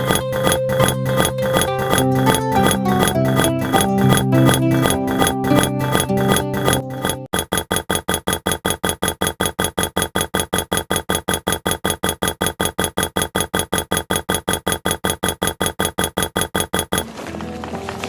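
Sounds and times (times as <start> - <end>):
stuttering electronic music pulse: 0.0 - 17.0.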